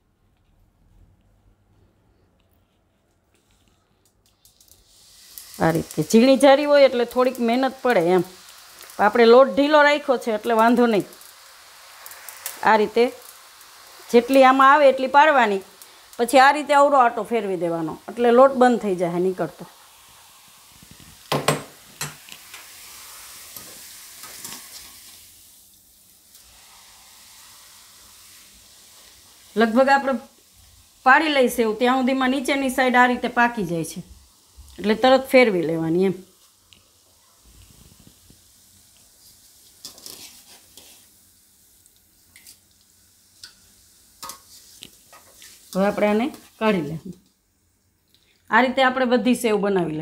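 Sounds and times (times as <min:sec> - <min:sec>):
oil sizzling: 0:04.0 - 0:48.8.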